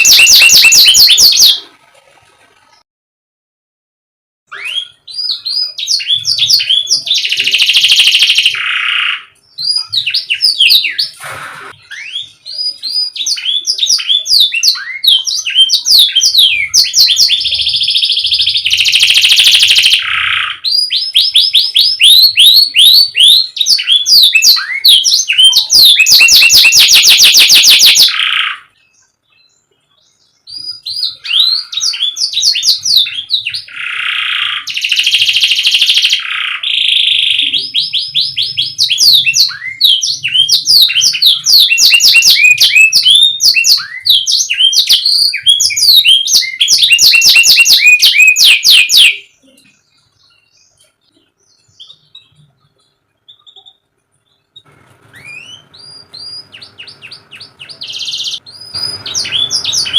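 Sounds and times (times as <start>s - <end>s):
canary singing: 0.0s - 1.7s, 4.5s - 59.9s.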